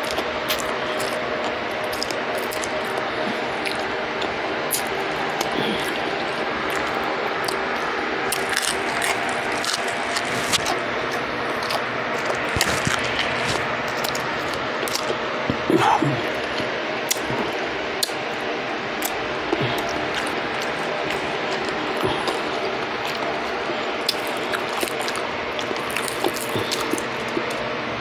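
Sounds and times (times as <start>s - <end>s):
crunching fried fish: 0.0s - 15.2s, 19.0s - 27.7s.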